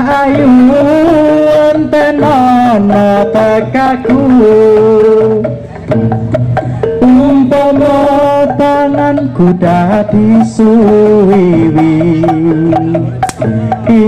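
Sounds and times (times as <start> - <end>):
hand drum beats: 0.0 - 14.0
wavering held melody: 0.2 - 14.0.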